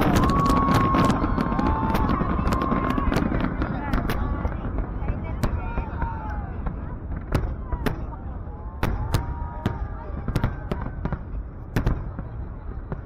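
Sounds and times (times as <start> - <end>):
fireworks sharp bangs: 0.0 - 13.0.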